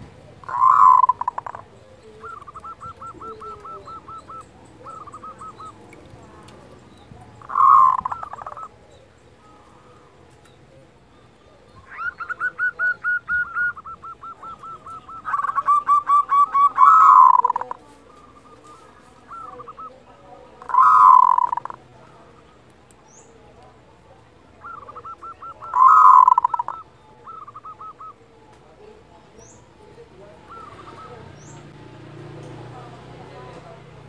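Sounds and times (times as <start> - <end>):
dove cooing: 0.0 - 22.6, 24.5 - 31.8.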